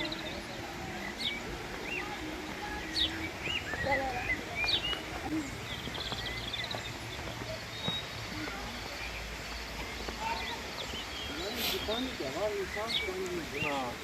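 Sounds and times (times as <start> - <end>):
birds chirping and whistling: 0.0 - 14.0.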